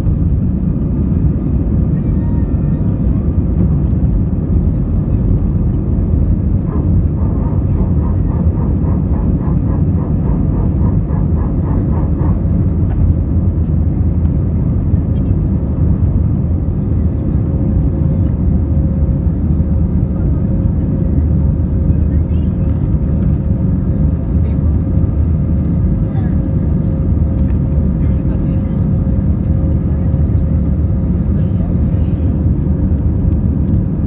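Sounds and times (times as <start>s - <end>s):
airplane cabin engine rumble: 0.0s - 34.0s.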